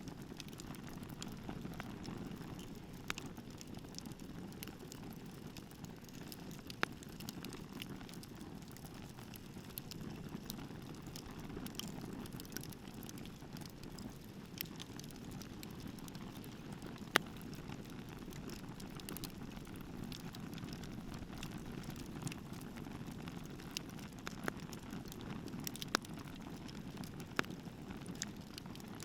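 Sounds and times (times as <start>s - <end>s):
fire crackling and popping: 0.0s - 29.0s.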